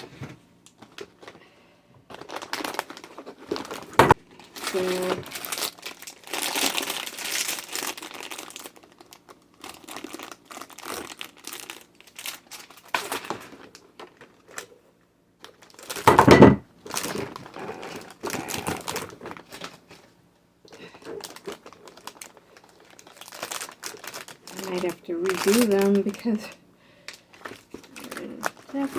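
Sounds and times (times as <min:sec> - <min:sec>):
plastic packaging crinkling: 0:00.1 - 0:14.8, 0:15.4 - 0:28.9.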